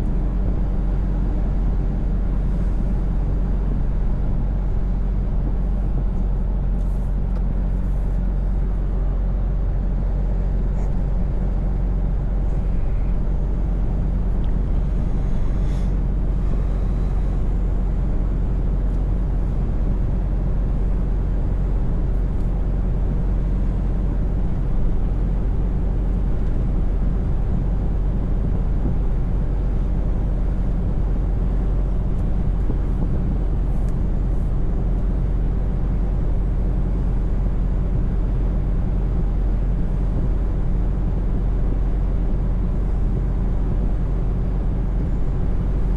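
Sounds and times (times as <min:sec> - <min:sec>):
road noise: 0:00.0 - 0:45.9
truck engine droning: 0:00.0 - 0:45.9.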